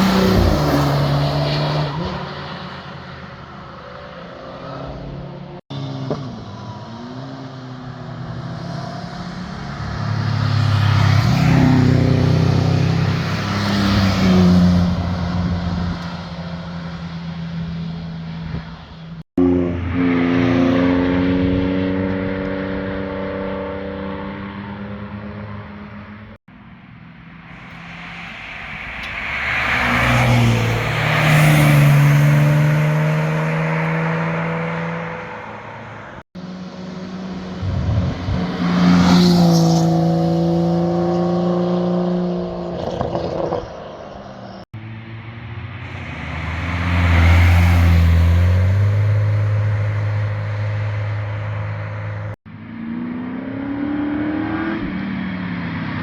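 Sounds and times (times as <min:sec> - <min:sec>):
sports cars driving past: 0:00.0 - 0:56.0.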